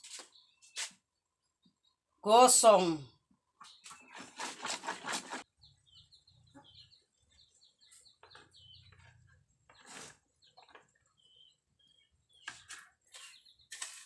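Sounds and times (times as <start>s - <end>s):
bird chirping: 0.0s - 2.4s, 3.4s - 14.0s.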